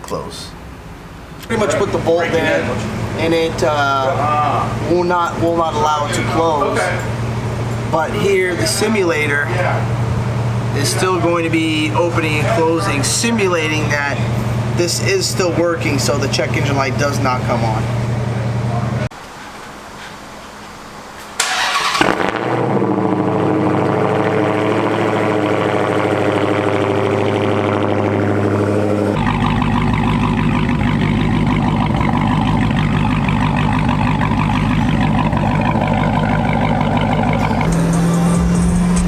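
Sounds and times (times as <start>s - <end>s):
car engine starting burst: 1.0s - 19.1s, 21.4s - 39.0s
engine idling: 1.4s - 19.1s, 21.4s - 39.0s.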